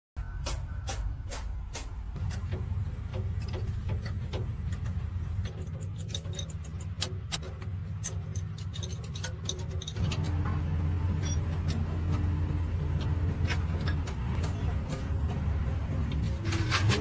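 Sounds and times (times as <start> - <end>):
steady low hum: 0.2 - 17.0.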